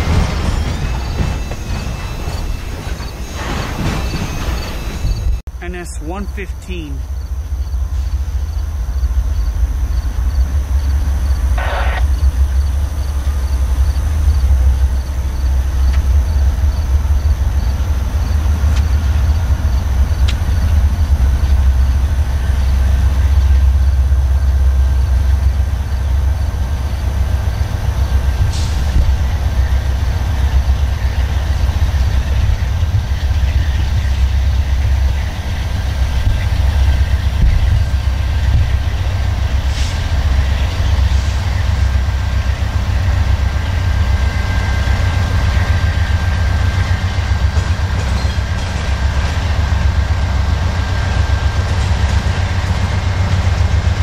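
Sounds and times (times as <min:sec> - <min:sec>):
diesel locomotive engine rumble: 0:00.0 - 0:54.0
crickets chirping: 0:00.1 - 0:47.6.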